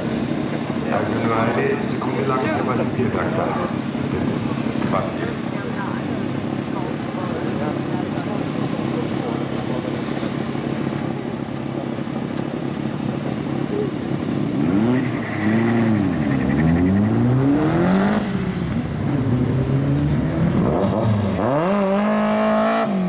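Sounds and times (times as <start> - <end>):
car engines idling: 0.0 - 23.0
car engines revving: 0.0 - 23.0
cars accelerating hard: 0.0 - 23.0.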